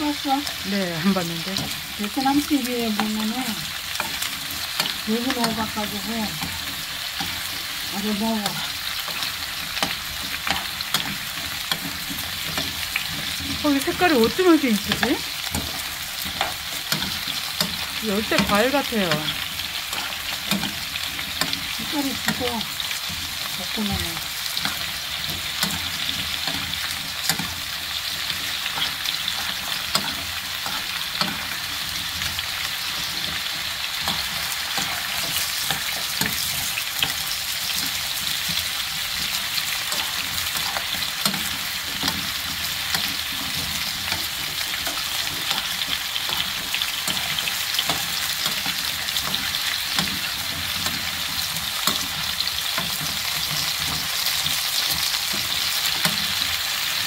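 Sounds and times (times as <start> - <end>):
pumpkin sizzling in oil: 0.0 - 57.0
metal spoon scraping a pan: 1.6 - 57.0.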